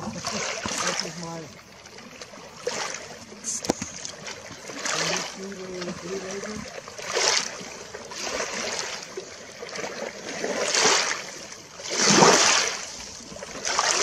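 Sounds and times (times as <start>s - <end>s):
waves lapping against rocks: 0.0s - 14.0s.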